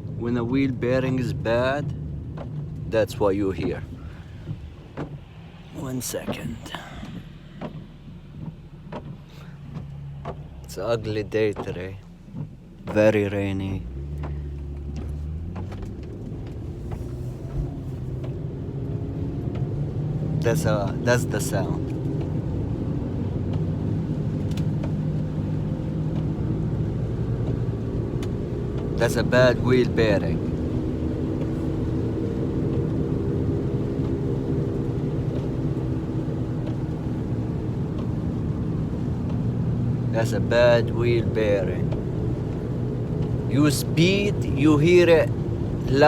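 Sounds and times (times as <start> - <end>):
road noise: 0.0 - 46.0.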